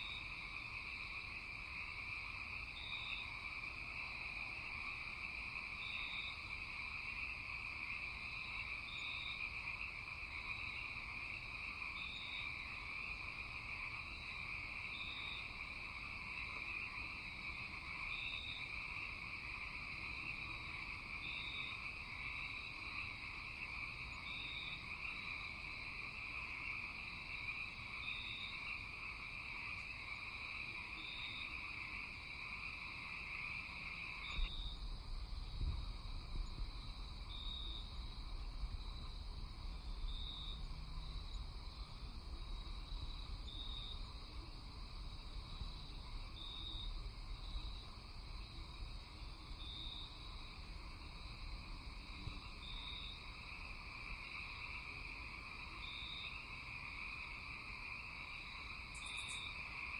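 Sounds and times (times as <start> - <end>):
frogs and insects trilling: 0.0 - 59.9.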